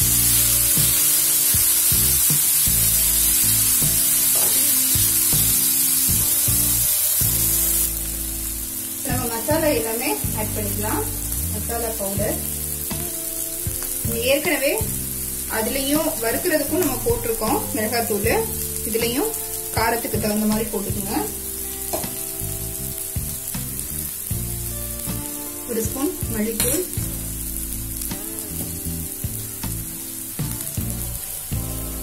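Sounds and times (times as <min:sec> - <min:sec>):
background music: 0:00.0 - 0:32.0
onions sizzling in oil: 0:00.0 - 0:32.0.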